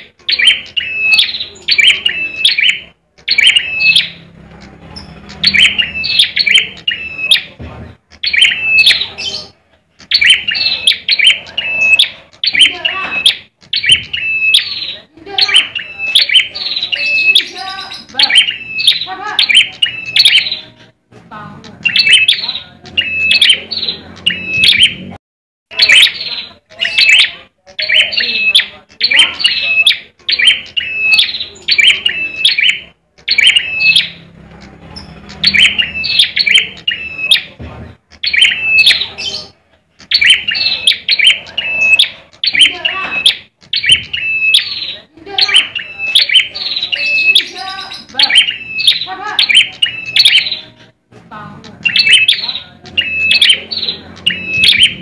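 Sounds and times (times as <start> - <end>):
bird chirping sharply: 0.0 - 20.9, 21.6 - 50.9, 51.7 - 55.0.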